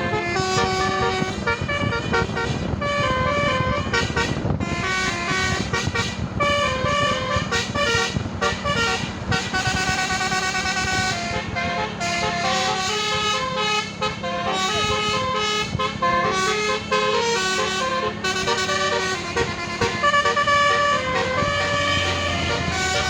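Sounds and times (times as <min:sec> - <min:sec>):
multi-tone musical bus horn: 0:00.0 - 0:23.0.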